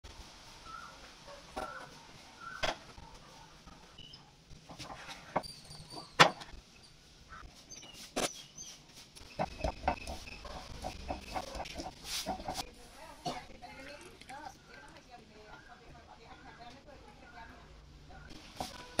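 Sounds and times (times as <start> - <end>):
birds chirping faintly: 0.4 - 19.0.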